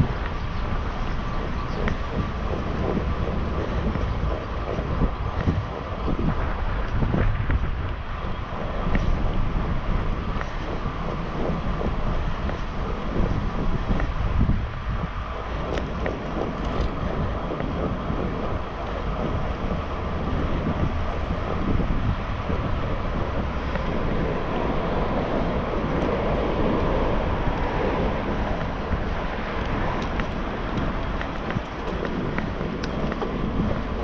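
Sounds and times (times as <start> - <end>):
tyres rumbling on asphalt: 0.0 - 34.0
wind buffeting microphone: 0.0 - 34.0.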